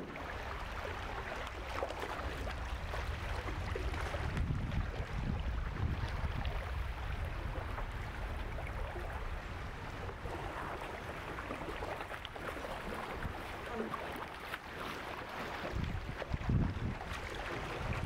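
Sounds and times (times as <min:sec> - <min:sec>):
wind rumble on microphone: 0:00.0 - 0:14.3, 0:15.2 - 0:18.0
shallow river burbling: 0:00.0 - 0:18.0.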